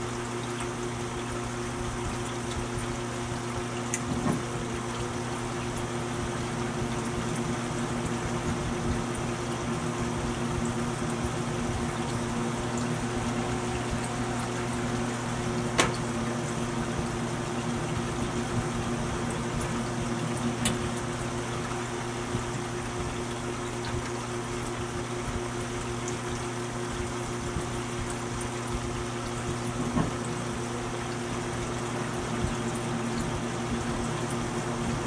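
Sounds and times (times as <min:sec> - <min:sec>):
exhaust fan motor hum: 0:00.0 - 0:35.0.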